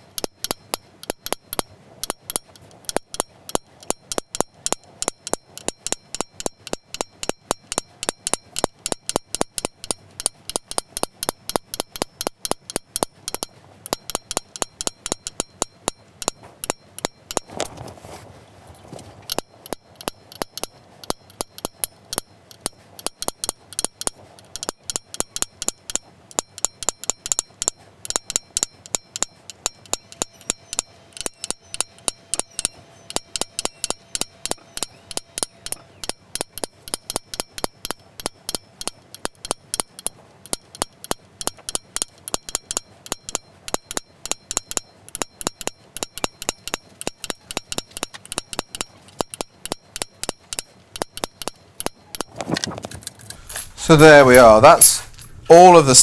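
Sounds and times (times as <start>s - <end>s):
hammer tapping metal punches: 0.0s - 17.8s, 19.2s - 52.7s, 53.4s - 56.0s.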